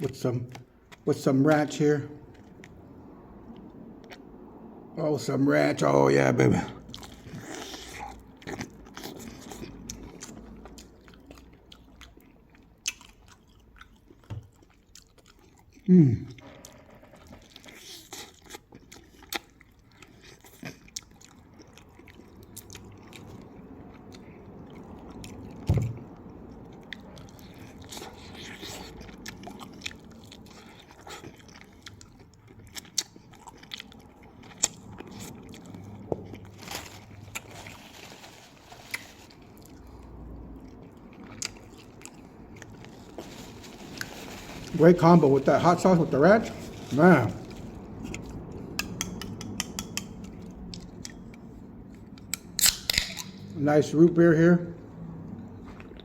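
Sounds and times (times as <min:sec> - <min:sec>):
person chewing crispy food: 0:06.7 - 0:53.4.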